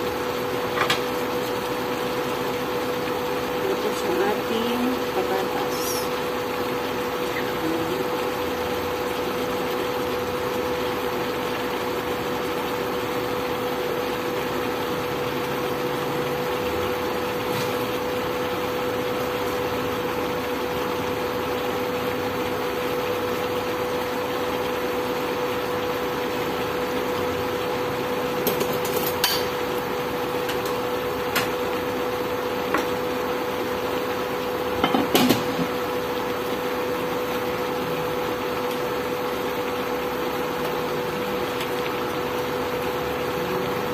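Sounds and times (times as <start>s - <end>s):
electric cooktop cooling fan hum: 0.0s - 43.9s.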